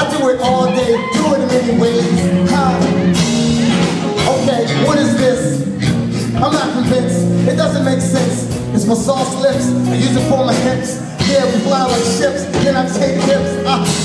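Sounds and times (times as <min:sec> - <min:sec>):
person singing or rapping: 0:00.0 - 0:03.0, 0:03.6 - 0:14.0
loud live music with beat: 0:00.0 - 0:14.0.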